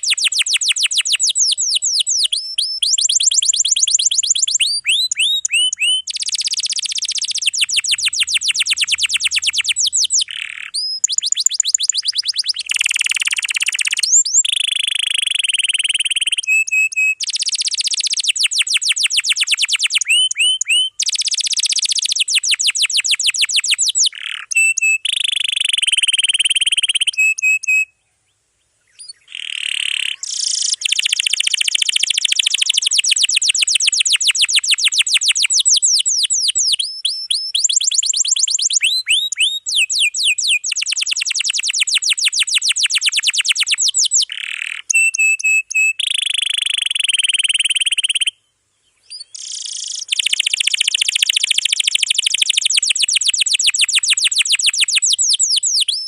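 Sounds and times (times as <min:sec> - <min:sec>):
canary singing rapid trills: 0:00.0 - 0:27.9, 0:29.0 - 0:48.4, 0:49.1 - 0:56.0.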